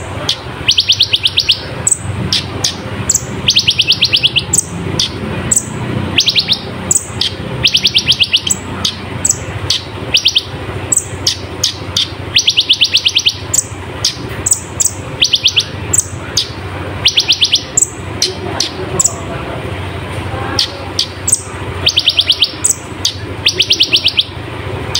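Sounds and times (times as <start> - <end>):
bird trilling and chirping: 0.0 - 19.3, 20.5 - 24.9.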